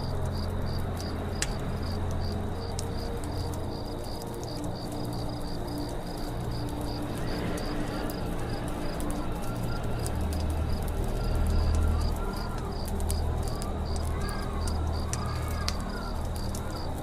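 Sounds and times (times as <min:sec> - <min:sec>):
campfire crackling: 0:00.0 - 0:17.0
cricket chirping: 0:00.0 - 0:17.0
low steady drone: 0:00.0 - 0:17.0.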